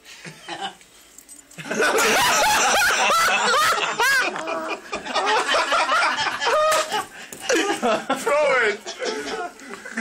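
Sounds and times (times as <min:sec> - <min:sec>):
people laughing loudly: 0:01.6 - 0:10.0.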